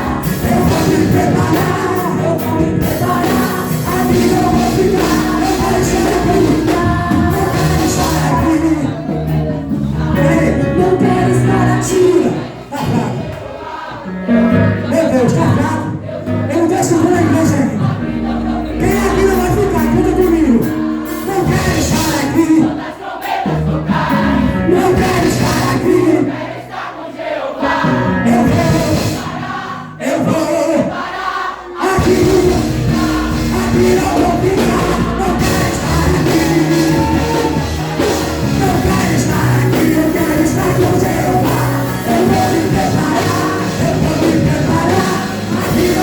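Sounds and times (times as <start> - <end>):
people singing: 0.0 - 46.0
worship band playing: 0.0 - 46.0.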